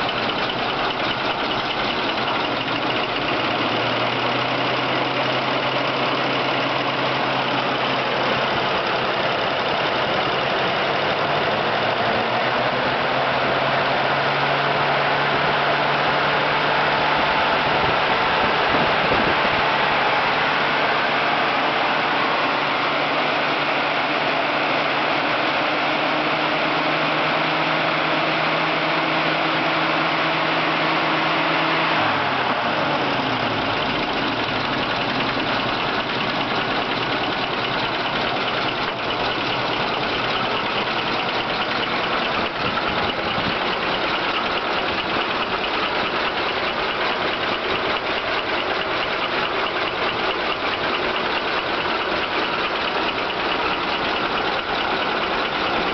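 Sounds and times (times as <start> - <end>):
engine running and idling: 0.0 - 55.9.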